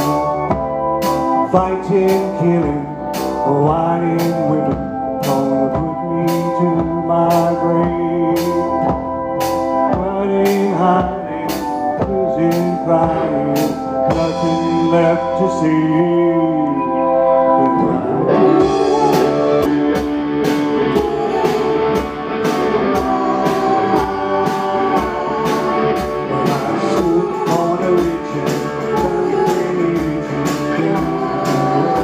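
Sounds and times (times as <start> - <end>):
rock band playing: 0.0 - 32.0.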